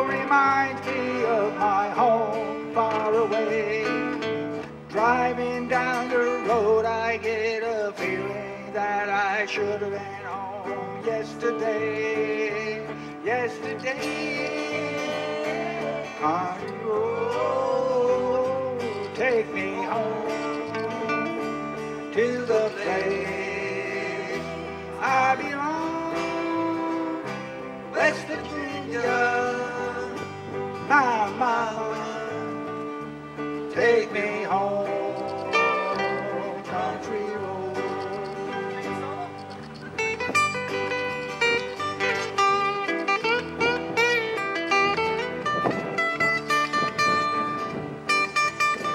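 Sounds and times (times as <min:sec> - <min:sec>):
person singing: 0:00.0 - 0:39.6
acoustic guitars strumming: 0:00.0 - 0:48.9
electric guitar: 0:00.0 - 0:48.9.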